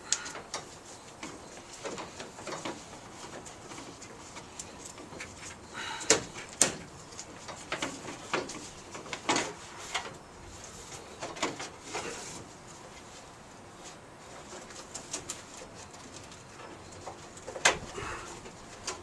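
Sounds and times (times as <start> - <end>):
fan belt clicks and knocks: 0.0 - 13.0, 14.4 - 19.0.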